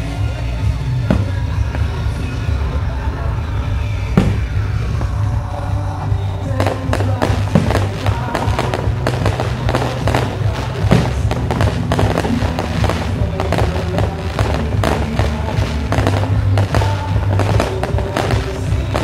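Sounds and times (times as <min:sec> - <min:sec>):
fireworks bangs and crackles: 0:00.0 - 0:19.0
loud music: 0:00.0 - 0:19.0.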